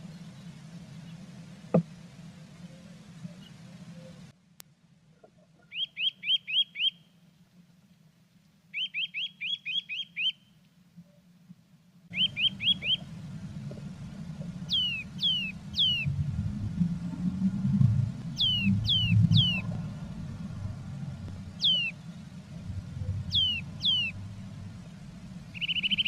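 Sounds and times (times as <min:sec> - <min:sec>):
songbird singing: 0:00.0 - 0:04.4, 0:05.1 - 0:07.3, 0:08.3 - 0:11.3, 0:12.1 - 0:26.0
low background hum: 0:00.0 - 0:26.0.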